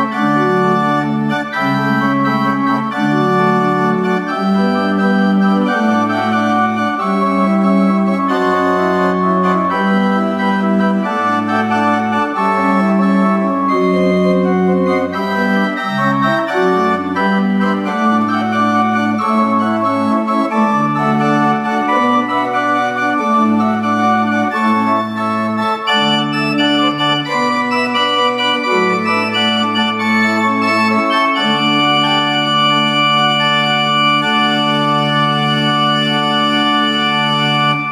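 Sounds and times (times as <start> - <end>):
pipe organ playing chords: 0.0 - 37.9.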